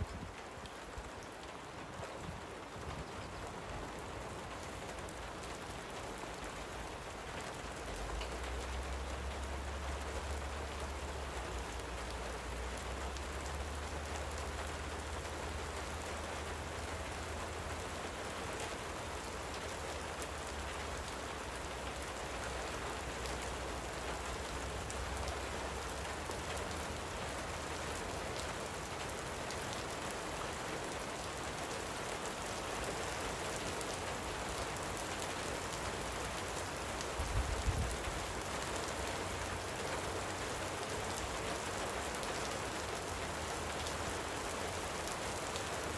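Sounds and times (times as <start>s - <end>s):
light rain falling: 0.0s - 45.9s.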